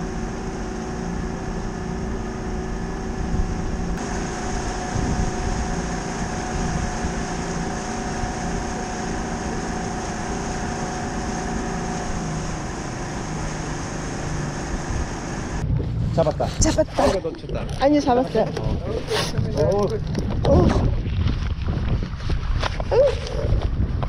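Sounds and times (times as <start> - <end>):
motorboat engine running: 0.0 - 24.0
wake water rushing along hull: 0.0 - 24.0.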